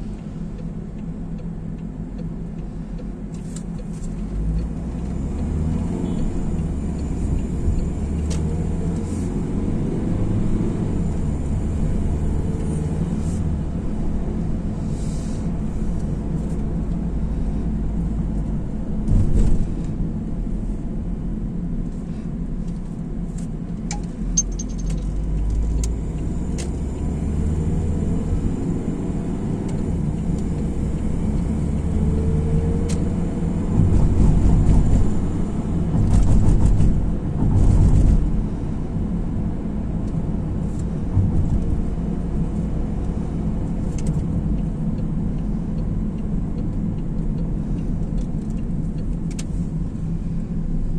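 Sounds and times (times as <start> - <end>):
car cabin road and engine rumble: 0.0 - 50.9.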